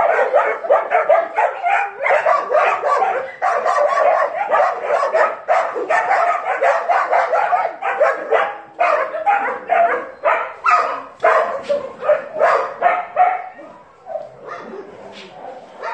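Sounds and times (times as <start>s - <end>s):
dog barking rapidly: 0.0s - 14.8s.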